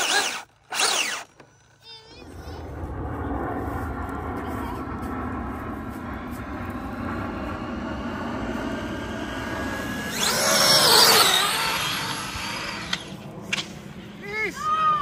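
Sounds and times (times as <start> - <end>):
rc car motor whine passing: 0.0 - 15.0.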